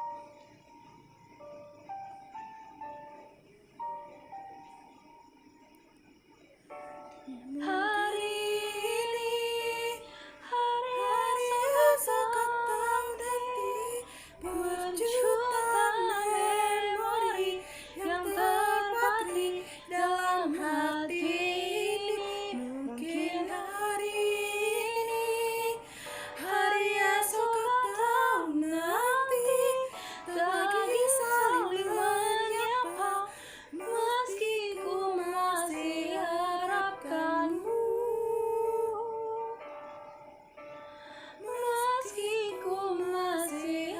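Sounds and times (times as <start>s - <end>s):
woman singing slow melody: 7.1s - 40.0s, 41.0s - 43.9s.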